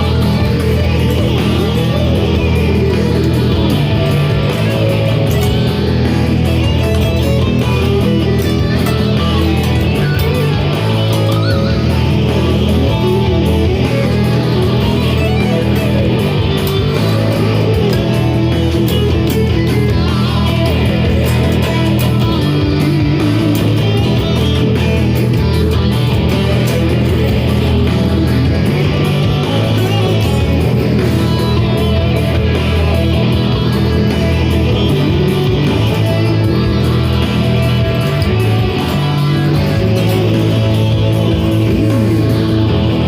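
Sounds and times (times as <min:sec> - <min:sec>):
bass notes: 0:00.0 - 0:43.0
electric guitar heavy rock riffs: 0:00.0 - 0:43.0.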